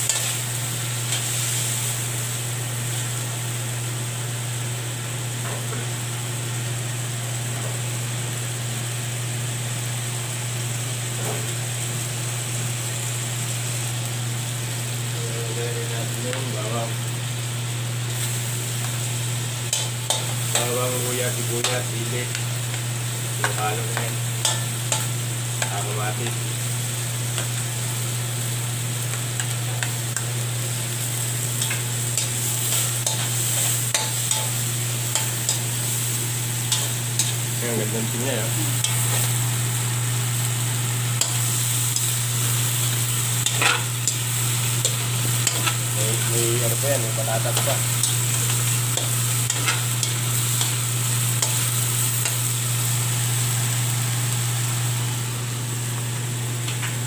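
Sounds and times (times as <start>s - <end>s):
food sizzling in a wok: 0.0s - 57.0s.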